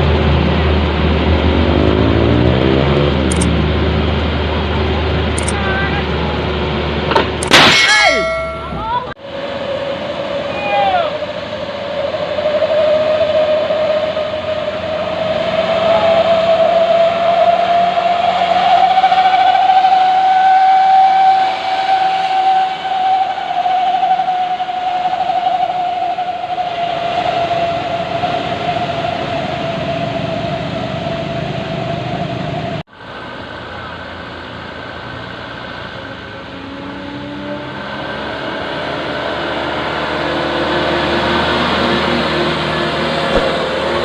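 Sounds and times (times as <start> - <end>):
truck engine labouring with whine: 0.0 - 44.0.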